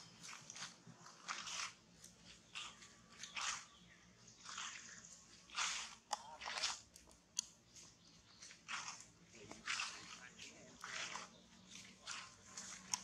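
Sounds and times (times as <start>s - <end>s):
dry leaves crunching: 0.0s - 13.0s.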